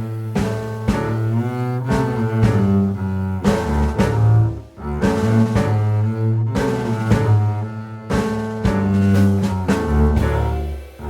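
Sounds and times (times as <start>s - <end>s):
low bowed strings music: 0.0s - 11.0s.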